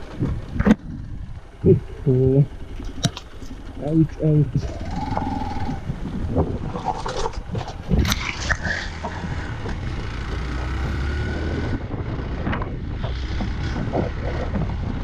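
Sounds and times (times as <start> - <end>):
motorcycle engine running: 0.0 - 8.1, 8.9 - 15.0
knocks and rattles over bumps: 0.0 - 15.0
wind buffeting microphone: 0.0 - 15.0.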